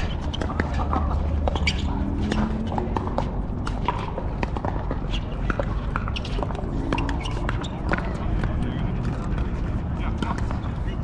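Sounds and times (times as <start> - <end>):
balls bouncing on hard courts: 0.0 - 11.0.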